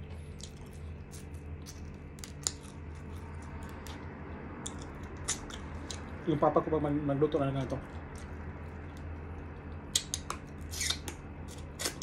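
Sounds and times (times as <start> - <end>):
low hum: 0.0 - 12.0
chewing clicks and smacks: 0.3 - 6.1, 7.6 - 12.0.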